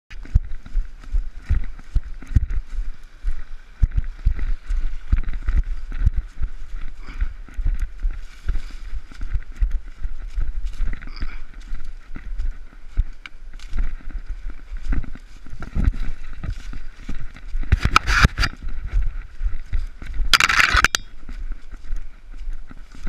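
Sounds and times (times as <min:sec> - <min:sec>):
footsteps through undergrowth: 0:00.1 - 0:23.0.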